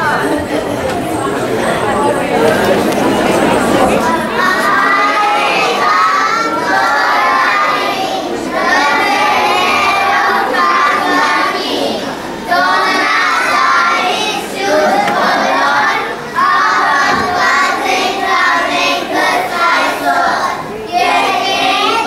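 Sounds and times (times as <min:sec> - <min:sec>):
children singing together: 0:02.4 - 0:22.0.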